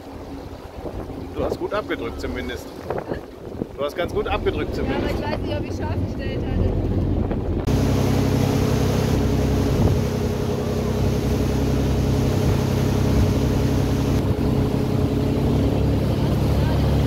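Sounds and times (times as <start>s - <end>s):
boat engine drone: 0.0s - 17.0s
wake rushing and splashing: 0.0s - 17.0s.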